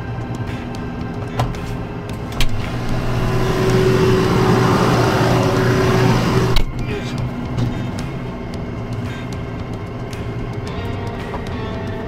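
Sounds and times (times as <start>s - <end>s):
tractor engine running: 2.0s - 12.0s.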